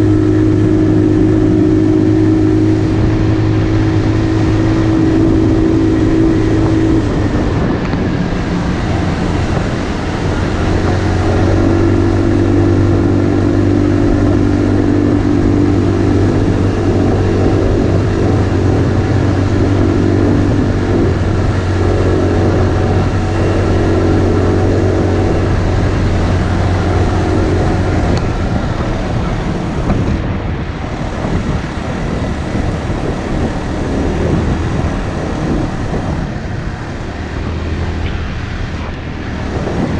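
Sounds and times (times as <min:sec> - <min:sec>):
motorcycle engine running: 0:00.0 - 0:39.9
wind rushing noise: 0:00.0 - 0:39.9.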